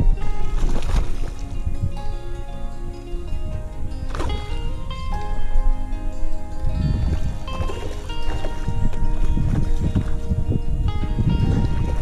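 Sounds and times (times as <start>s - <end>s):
low bass: 0.0s - 12.0s
melody of held notes: 0.0s - 12.0s.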